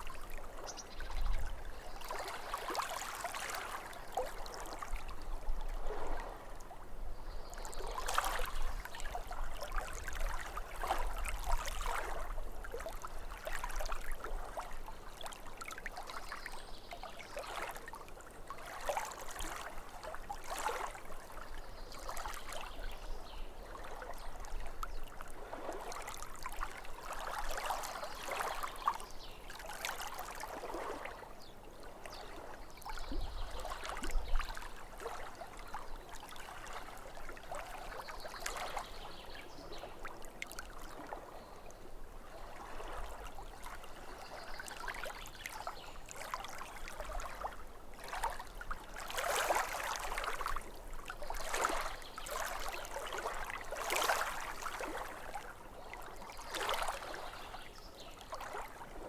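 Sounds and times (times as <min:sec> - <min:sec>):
waves lapping at shore: 0:00.0 - 0:59.0.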